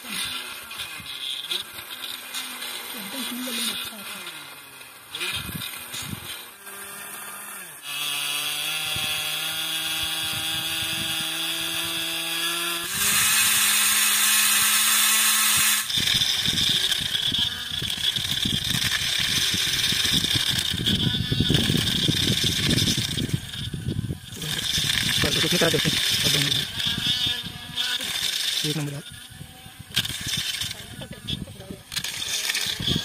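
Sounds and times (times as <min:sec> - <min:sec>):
drill bit rattling through gravel: 0:00.0 - 0:33.0
small electric motors humming: 0:00.0 - 0:33.0.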